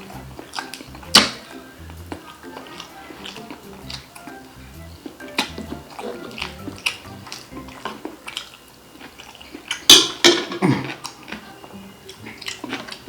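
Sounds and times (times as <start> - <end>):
eating crackles and clicks: 0.0 - 13.0
faint background music: 0.0 - 13.0.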